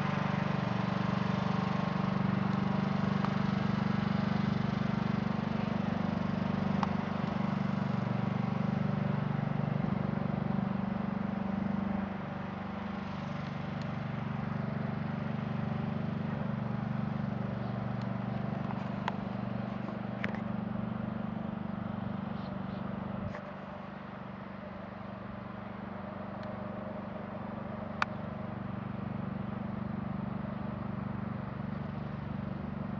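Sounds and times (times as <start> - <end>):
lawn mower engine running: 0.0 - 32.9.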